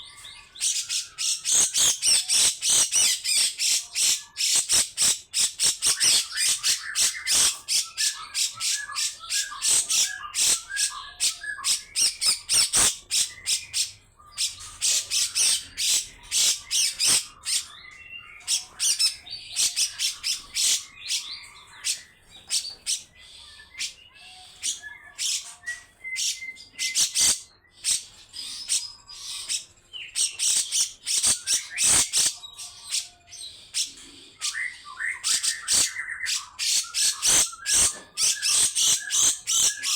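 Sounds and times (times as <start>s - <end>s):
whistled bird notes: 0.0s - 39.9s.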